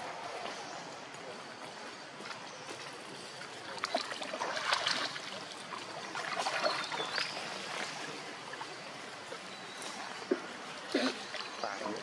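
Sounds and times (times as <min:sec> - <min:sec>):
water trickling and lapping: 0:00.0 - 0:12.0
small water splashes: 0:01.6 - 0:12.0.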